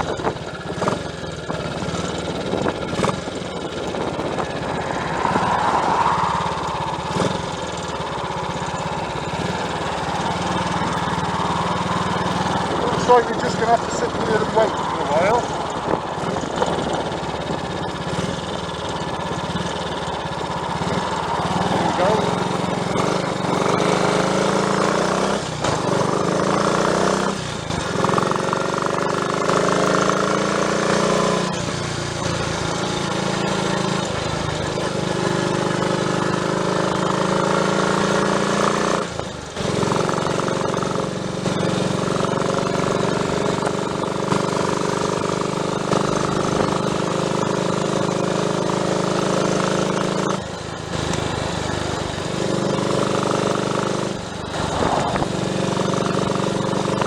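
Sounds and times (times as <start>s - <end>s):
motorcycle engine changing gears: 0.0s - 57.0s.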